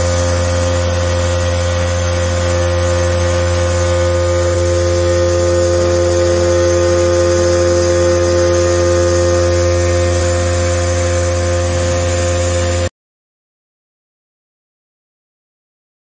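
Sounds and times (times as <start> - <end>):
bright steady tone: 0.0 - 12.9
vibrating motor humming: 0.0 - 12.9.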